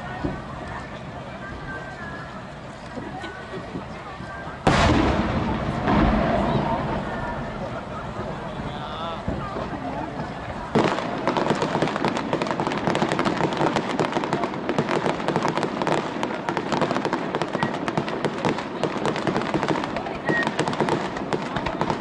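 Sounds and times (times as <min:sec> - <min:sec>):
fireworks crackling and popping: 0:00.0 - 0:22.0.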